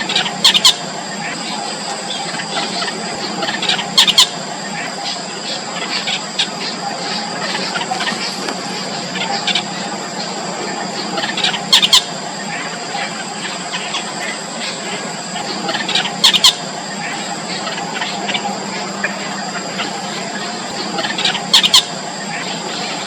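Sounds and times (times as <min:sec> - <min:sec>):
nestlings squealing: 0:00.0 - 0:23.0.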